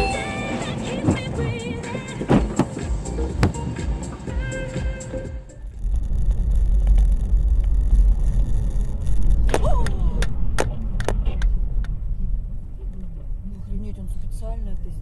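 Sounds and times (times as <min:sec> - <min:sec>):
car driving on snowy road: 0:00.0 - 0:04.5, 0:05.6 - 0:15.0.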